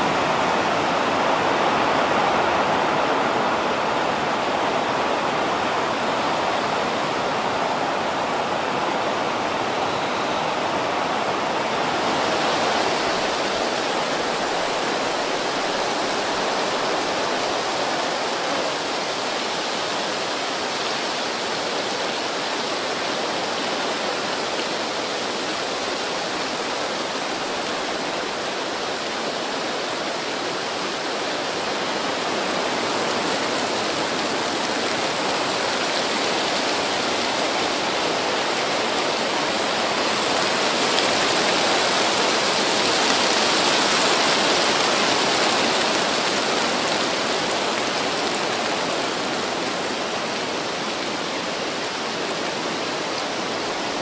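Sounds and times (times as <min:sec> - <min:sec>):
wind rustling tree foliage: 0:00.0 - 0:54.0.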